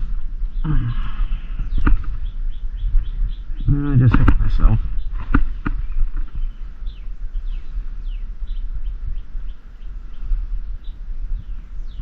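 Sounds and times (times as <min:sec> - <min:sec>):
bird chirping: 0:00.0 - 0:12.0
steady low rumble: 0:00.0 - 0:12.0.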